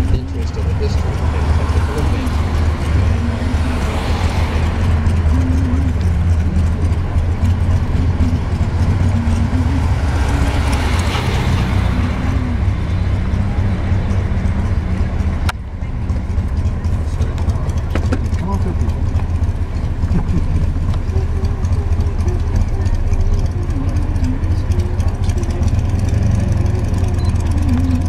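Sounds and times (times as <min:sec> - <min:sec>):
road and engine rumble inside car: 0:00.0 - 0:28.0.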